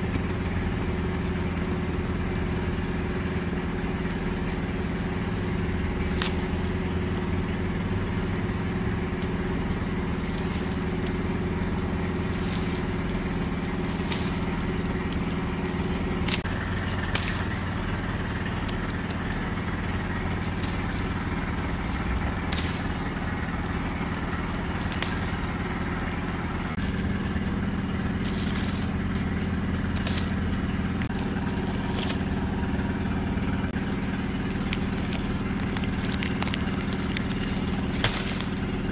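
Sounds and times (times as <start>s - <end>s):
leaves and twigs crackling: 0.0s - 38.9s
low engine-like hum: 0.0s - 38.9s.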